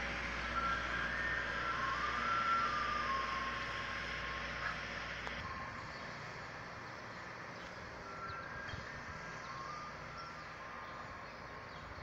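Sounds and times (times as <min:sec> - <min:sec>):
ice cream truck chime melody: 0:00.0 - 0:12.0
street traffic hum: 0:00.0 - 0:12.0.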